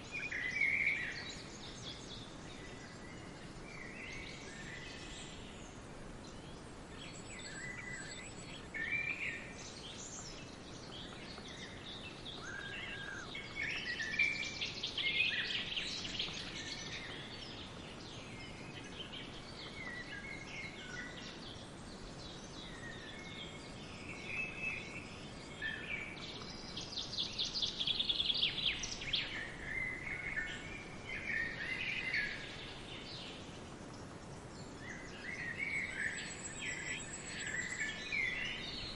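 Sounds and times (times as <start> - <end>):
faint outdoor hiss: 0.0 - 38.9
small birds chirping and trilling: 0.0 - 38.9.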